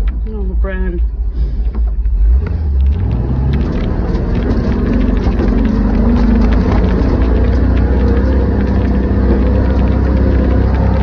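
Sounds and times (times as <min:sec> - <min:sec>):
truck engine revving: 0:01.4 - 0:11.0.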